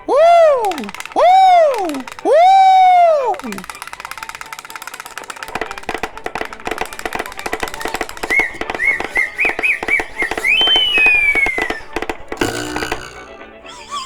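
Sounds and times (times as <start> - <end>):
warbling cartoon whistle: 0.0 - 4.0, 6.7 - 14.0
rapid dry clicks and taps: 0.0 - 13.6.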